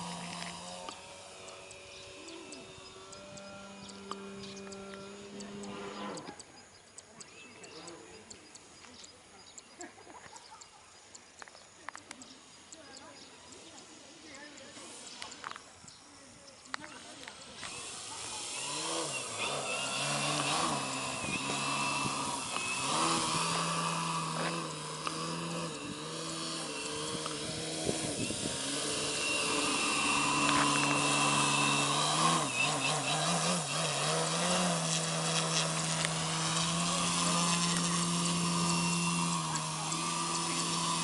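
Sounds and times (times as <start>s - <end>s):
model plane engine buzzing: 0.0s - 8.6s, 12.0s - 41.0s.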